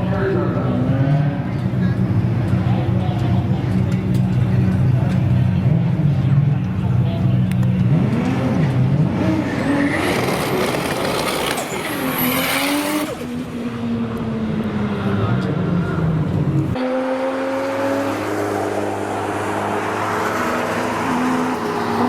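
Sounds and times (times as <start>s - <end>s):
car engine revving: 0.2s - 22.0s.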